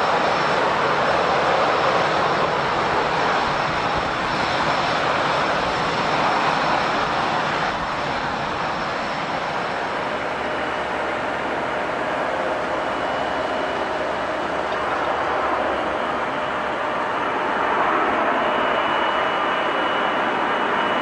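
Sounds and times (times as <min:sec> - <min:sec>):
jet engines idling: 0:00.0 - 0:21.0.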